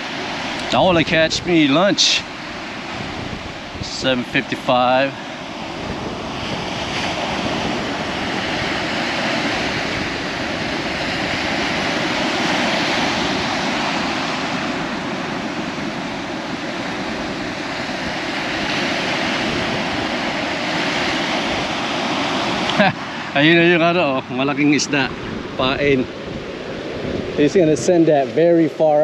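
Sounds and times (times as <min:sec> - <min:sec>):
ocean surf washing ashore: 0:00.0 - 0:29.0.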